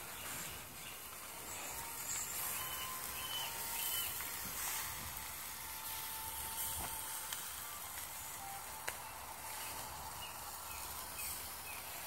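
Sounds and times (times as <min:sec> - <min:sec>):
sausages sizzling on a grill: 0:00.0 - 0:12.0.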